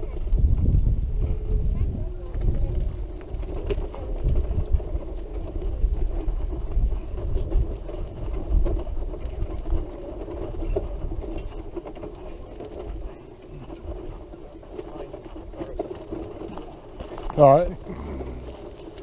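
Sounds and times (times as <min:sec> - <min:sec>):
wheelchair rolling on bumpy path: 0:00.0 - 0:19.0
wheels rattling: 0:00.0 - 0:19.0.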